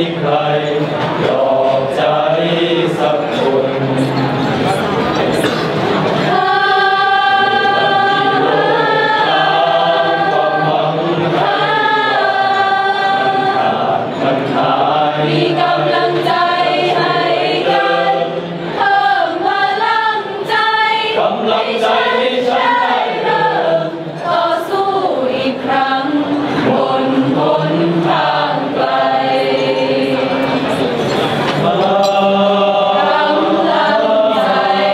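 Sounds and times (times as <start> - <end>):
choir singing in harmony: 0.0 - 34.9.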